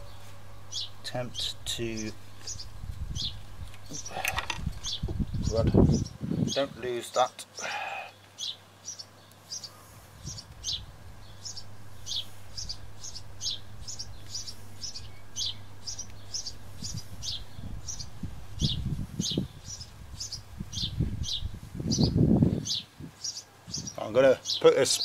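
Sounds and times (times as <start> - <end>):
small bird chirping: 0.0 - 6.7, 8.1 - 25.0.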